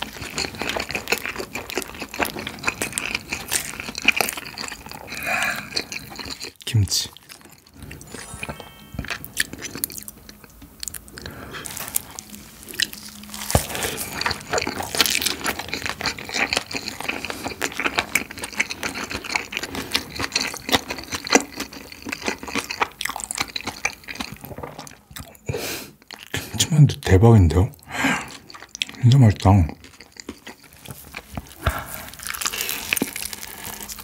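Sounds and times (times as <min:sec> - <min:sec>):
close chewing and mouth smacking: 0:00.0 - 0:08.2, 0:09.0 - 0:34.0.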